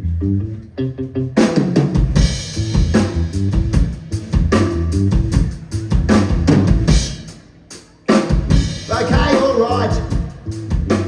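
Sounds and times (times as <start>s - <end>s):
bass riff: 0.0s - 7.3s, 8.3s - 11.0s
live band playing: 0.1s - 11.0s
drum kit: 1.4s - 11.0s.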